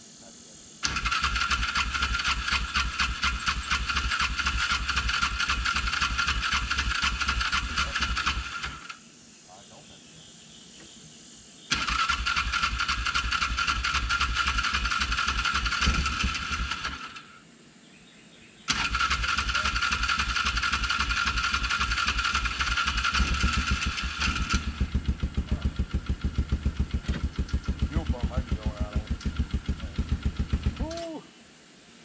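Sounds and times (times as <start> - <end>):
engine cranking on starter: 0.8 - 9.0, 11.7 - 17.3, 18.7 - 31.0
engine idling: 0.8 - 9.0, 11.7 - 17.4, 18.7 - 31.2.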